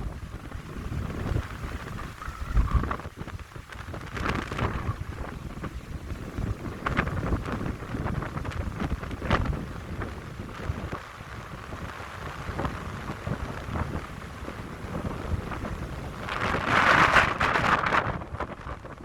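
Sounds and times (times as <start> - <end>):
wind buffeting microphone: 0.0 - 19.0
wind through pine trees: 0.0 - 19.0.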